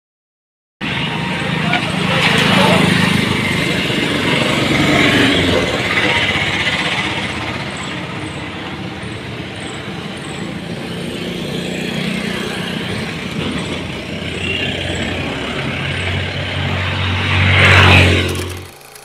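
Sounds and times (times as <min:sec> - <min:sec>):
road noise: 0:00.8 - 0:19.0
vehicle engine: 0:00.8 - 0:19.0
wind: 0:00.8 - 0:19.0.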